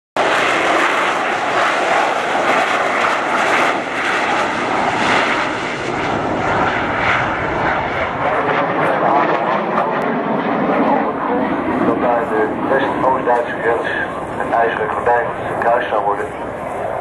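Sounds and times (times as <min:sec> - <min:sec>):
jet engine roaring overhead: 0:00.2 - 0:17.0.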